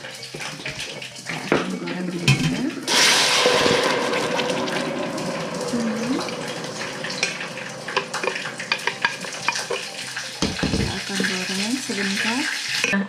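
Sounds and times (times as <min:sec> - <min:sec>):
oil crackling and popping: 0:00.0 - 0:01.5, 0:02.8 - 0:12.9.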